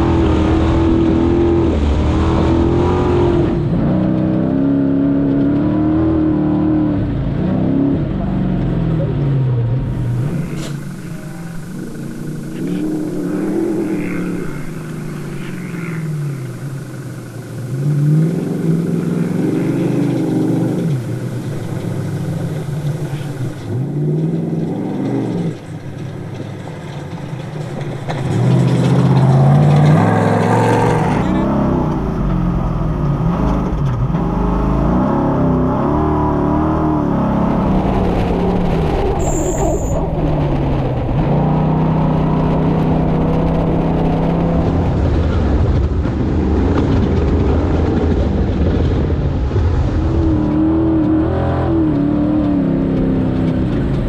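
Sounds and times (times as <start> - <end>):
engine revving through gears: 0.0 - 54.0.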